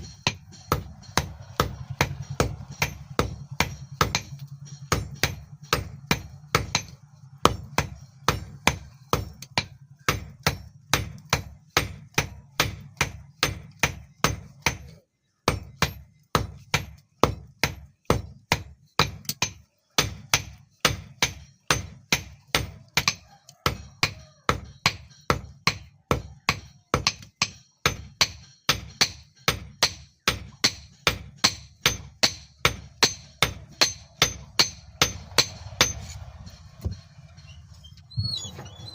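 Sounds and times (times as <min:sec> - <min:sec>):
hammer striking hot steel on anvil: 0:00.0 - 0:37.6.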